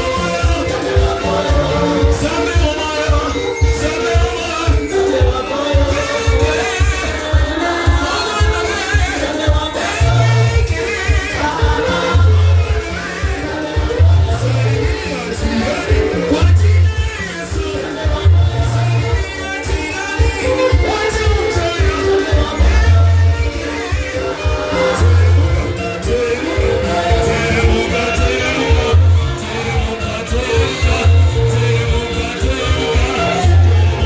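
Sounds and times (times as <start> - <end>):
live band with bass beat: 0.0 - 34.0
people singing: 0.0 - 34.0.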